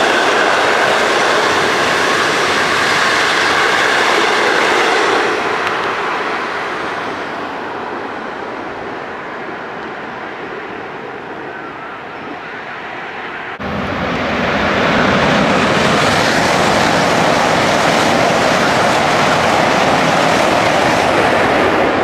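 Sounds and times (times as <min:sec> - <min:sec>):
train passing close by: 0:00.0 - 0:22.0.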